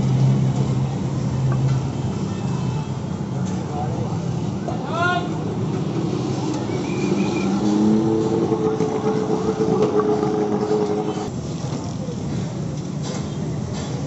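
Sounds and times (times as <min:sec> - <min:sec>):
vehicle engine humming: 0:00.0 - 0:11.6
street noise hiss: 0:00.0 - 0:14.0.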